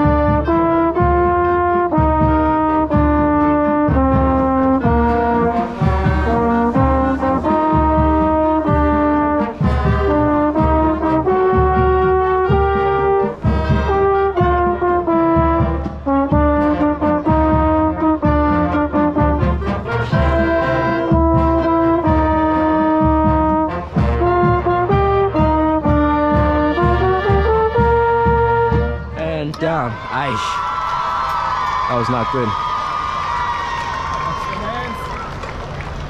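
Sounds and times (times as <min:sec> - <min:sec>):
mellophone playing loud: 0:00.0 - 0:29.2
brass band chords: 0:00.0 - 0:30.1
steady drum beats: 0:00.0 - 0:32.6.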